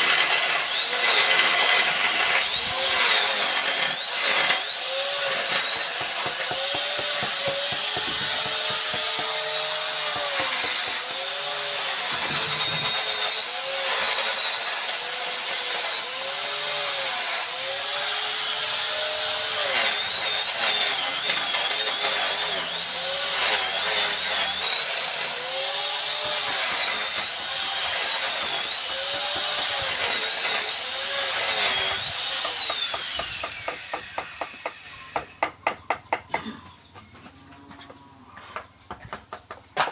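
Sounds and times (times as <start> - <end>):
power carving tool whining: 0.0 - 36.2.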